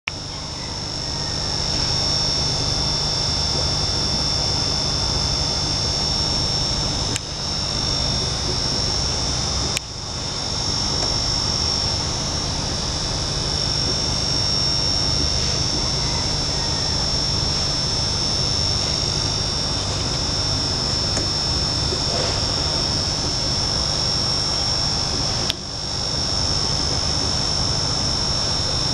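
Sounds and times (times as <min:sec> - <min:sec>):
machine drone with high whine: 0:00.1 - 0:28.9.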